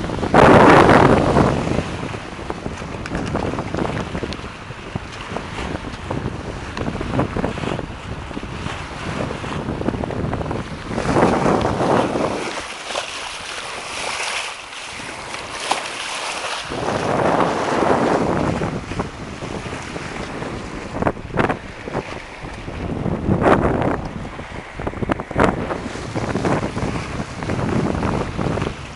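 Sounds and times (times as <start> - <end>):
water splashing along hull: 0.0 - 28.9
wind buffeting microphone: 0.0 - 28.9.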